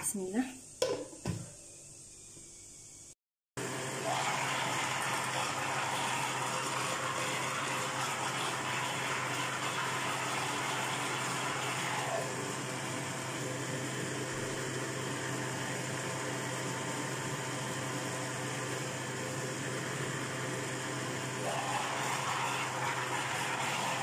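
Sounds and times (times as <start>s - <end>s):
electric blender running: 3.6s - 24.0s.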